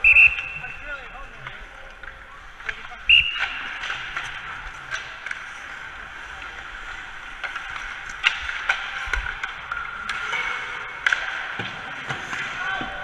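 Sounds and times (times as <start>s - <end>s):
skate blades scraping ice: 0.0s - 13.0s
steady rink hum: 0.0s - 13.0s
sticks clicking against pucks: 0.0s - 13.0s.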